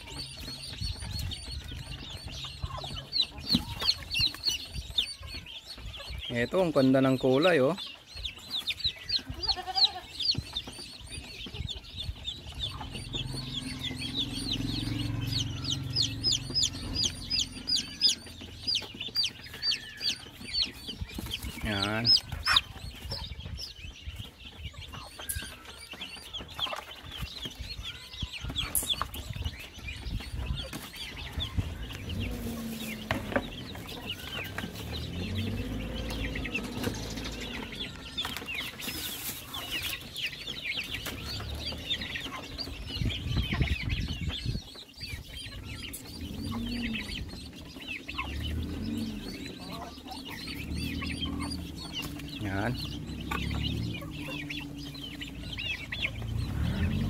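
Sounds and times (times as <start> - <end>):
chickens clucking: 0.0 - 57.0
chicks peeping: 0.0 - 57.0.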